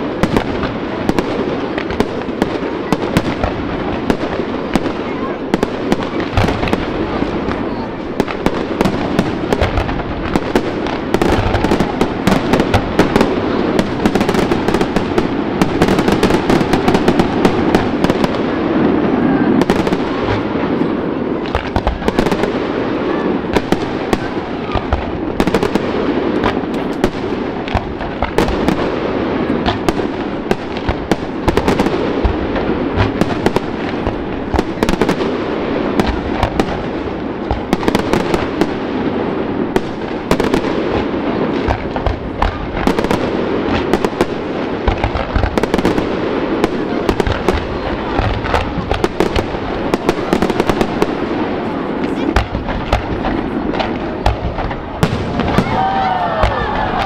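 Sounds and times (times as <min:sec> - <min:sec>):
firework bangs and crackling: 0:00.0 - 0:57.0.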